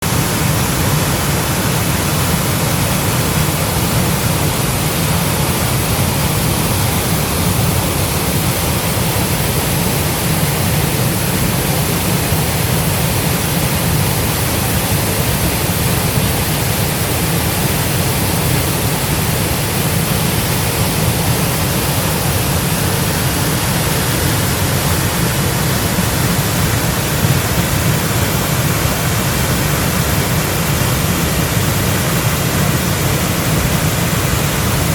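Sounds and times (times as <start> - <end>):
waterfall rushing with low rumble: 0.0 - 34.9.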